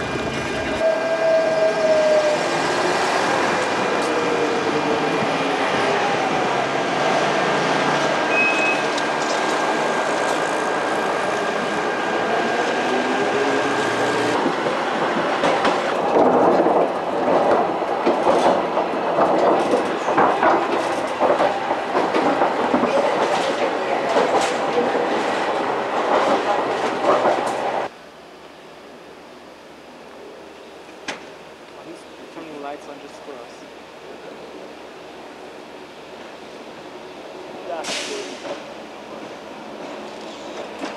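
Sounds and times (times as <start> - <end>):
rail vehicle rumble: 0.0 - 40.9.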